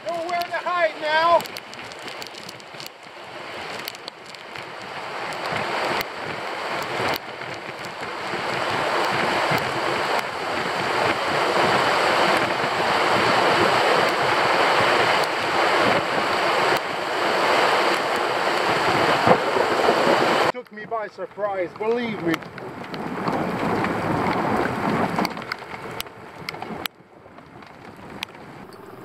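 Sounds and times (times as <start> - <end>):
heavy rain on water: 0.0 - 29.0.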